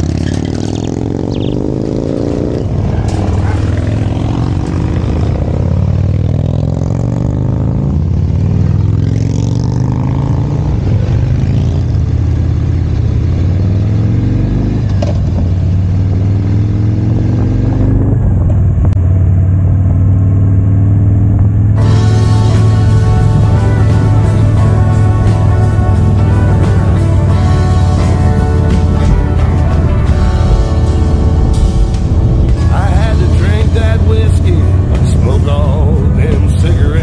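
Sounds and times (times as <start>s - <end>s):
motorcycle engine and exhaust: 0.0s - 37.0s.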